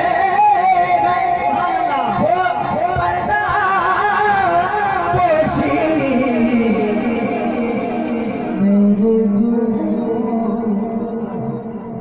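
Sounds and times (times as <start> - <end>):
man singing over loudspeaker: 0.0 - 12.0.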